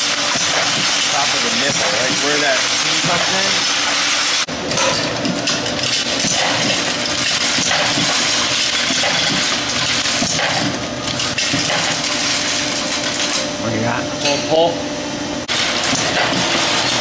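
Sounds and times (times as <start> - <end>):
machine mechanical clatter: 0.0 - 13.6, 15.5 - 17.0.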